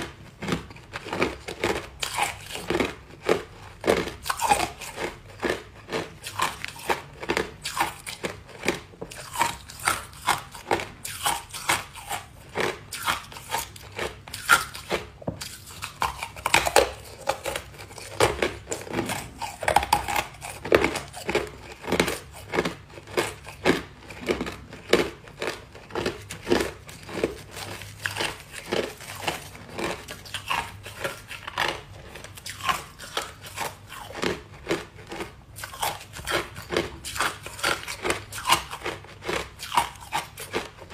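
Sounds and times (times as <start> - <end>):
ice crunching between teeth: 0.0 - 40.9.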